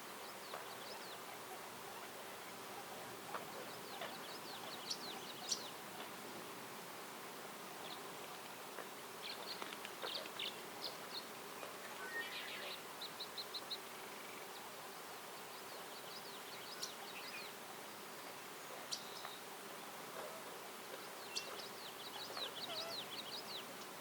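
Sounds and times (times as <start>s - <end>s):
small birds chirping: 0.0s - 6.5s, 7.7s - 24.0s.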